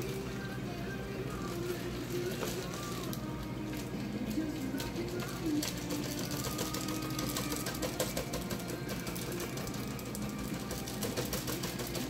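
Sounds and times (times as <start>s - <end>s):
aquarium air pump humming: 0.0s - 12.0s.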